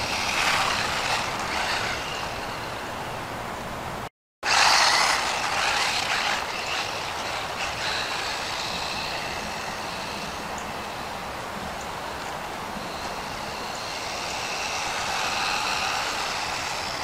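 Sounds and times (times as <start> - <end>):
rc truck electric motor whining: 0.0 - 3.1, 4.4 - 11.4, 12.0 - 17.0.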